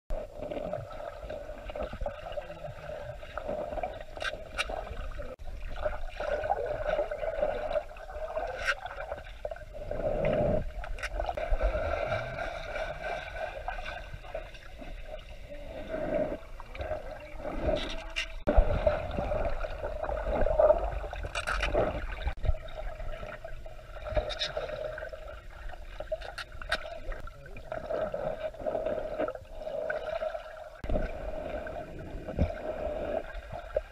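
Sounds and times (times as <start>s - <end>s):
steady underwater hum: 0.1s - 33.9s
water sloshing and bubbling: 0.1s - 33.9s.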